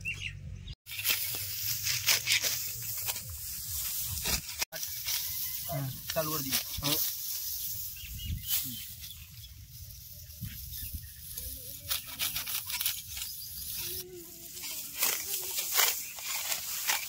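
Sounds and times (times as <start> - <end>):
sickle cutting stalks: 0.9 - 9.2, 9.8 - 17.0
dry wheat stalks rustling: 0.9 - 17.0.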